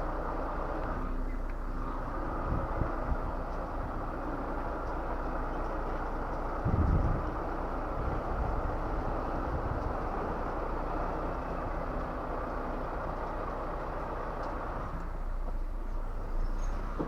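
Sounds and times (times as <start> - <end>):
diesel truck engine running: 0.0 - 17.0
road noise: 0.0 - 17.0.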